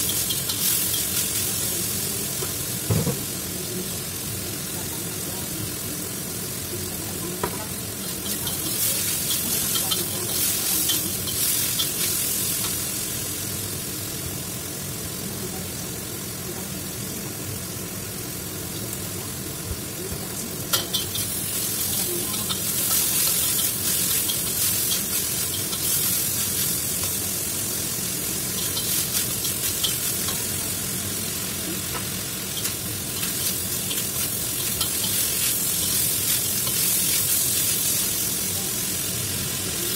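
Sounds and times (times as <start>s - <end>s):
chicken sizzling in a wok: 0.0s - 39.9s.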